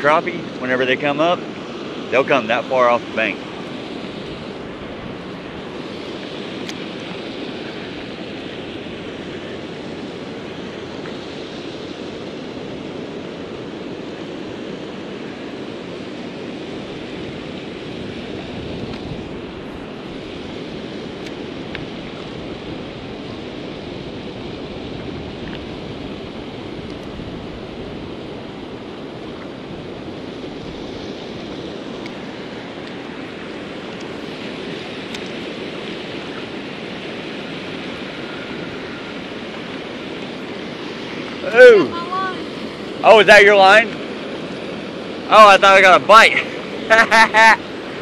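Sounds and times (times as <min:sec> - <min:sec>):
turbulent river water rushing: 0:00.0 - 0:48.0.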